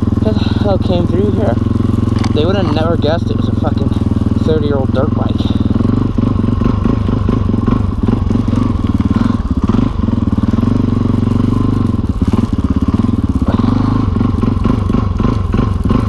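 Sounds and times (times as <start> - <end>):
dirt bike engine chugging: 0.0 - 16.0.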